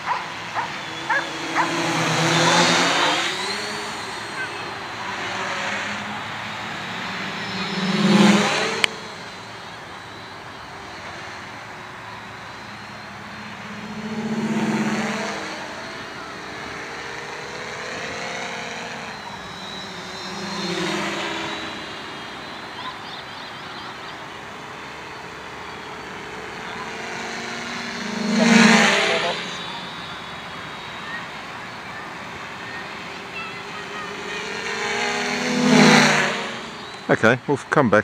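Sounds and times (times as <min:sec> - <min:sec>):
quadcopter motors buzzing: 0:00.0 - 0:38.0.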